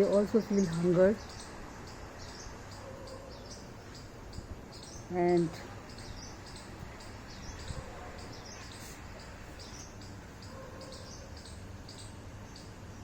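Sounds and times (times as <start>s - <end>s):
low background hum: 0.0s - 13.0s
small birds chirping: 0.0s - 13.0s.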